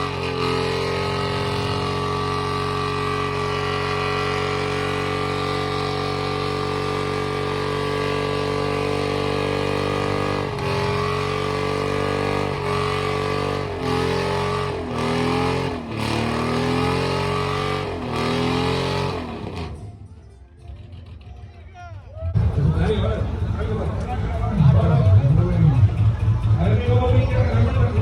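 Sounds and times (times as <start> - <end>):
vehicle engine revving: 0.0 - 20.0, 20.6 - 28.0.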